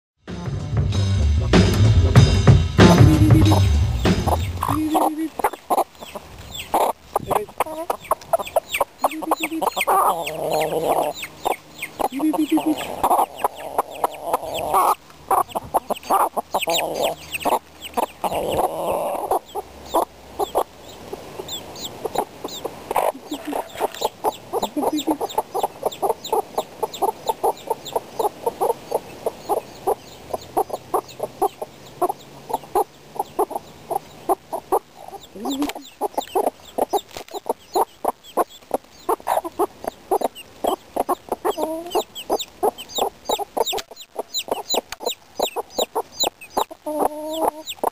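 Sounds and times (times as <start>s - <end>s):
chicks peeping: 2.8s - 47.9s
hens clucking: 2.8s - 47.9s.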